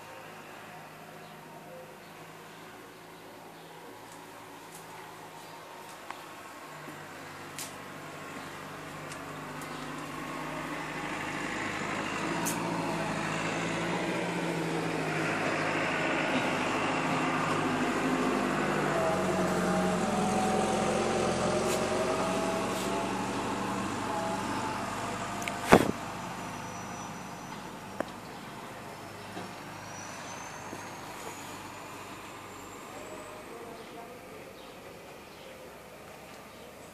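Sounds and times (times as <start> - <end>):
motor vehicle passing: 2.2 - 36.9.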